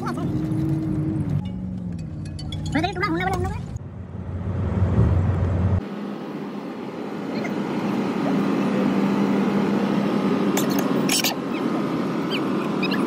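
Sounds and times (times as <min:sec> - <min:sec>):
vehicle engine and road hum: 0:00.0 - 0:13.0.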